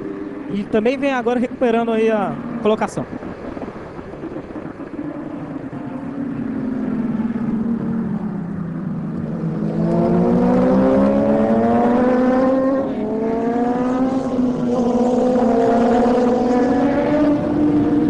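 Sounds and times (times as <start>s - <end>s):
superbike engine accelerating: 2.1s - 18.0s.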